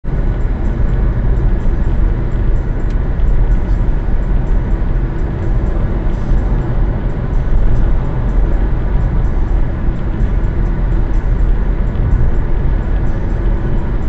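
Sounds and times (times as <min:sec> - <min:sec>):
car engine hum: 0:00.0 - 0:14.0
road and tyre rumble: 0:00.0 - 0:14.0.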